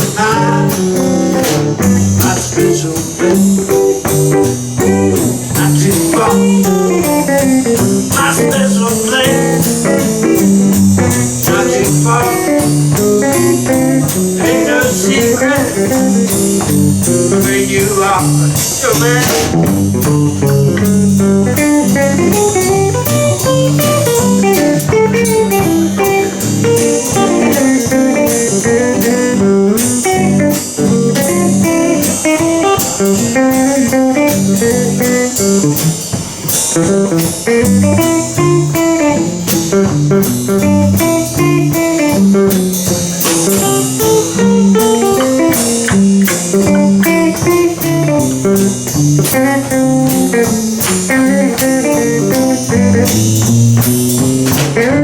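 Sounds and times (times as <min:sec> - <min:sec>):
drum kit: 0:00.0 - 0:55.0
lead guitar: 0:00.0 - 0:55.0
rhythm guitar: 0:00.0 - 0:55.0.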